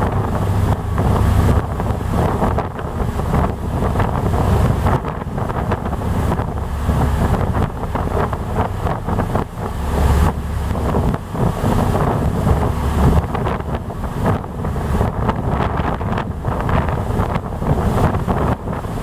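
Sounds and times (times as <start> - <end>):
ship engine running: 0.0 - 19.0
water washing: 0.0 - 19.0
wind buffeting microphone: 0.0 - 19.0.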